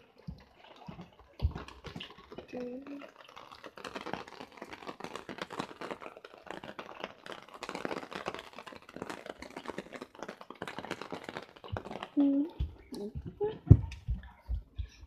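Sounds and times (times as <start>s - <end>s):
rain pattering on awning: 0.0s - 14.6s.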